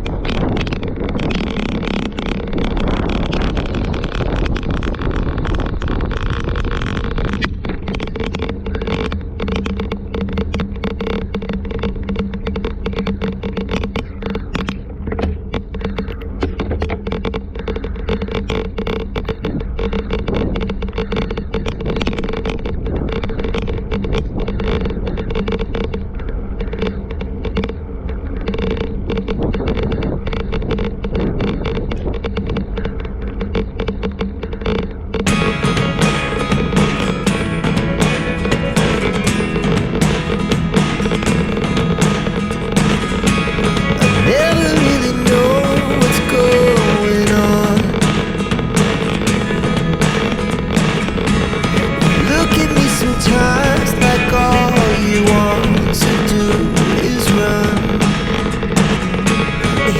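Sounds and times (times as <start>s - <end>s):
steady low hum: 0.0s - 59.9s
strong wind buffeting microphone: 0.0s - 59.9s.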